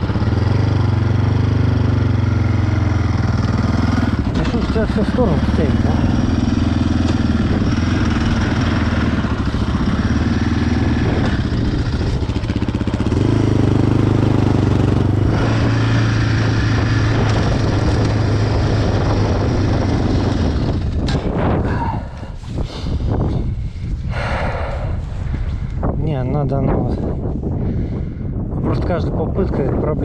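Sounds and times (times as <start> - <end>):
quad engine running hard: 0.0 - 25.0.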